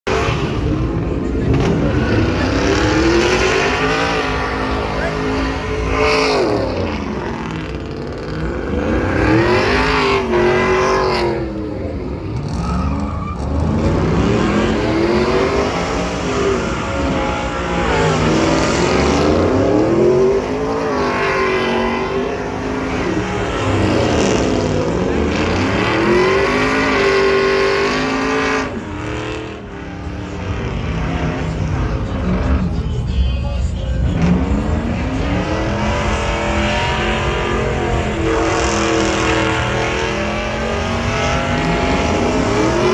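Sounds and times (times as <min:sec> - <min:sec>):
vehicle engine revving: 0:00.0 - 0:42.9.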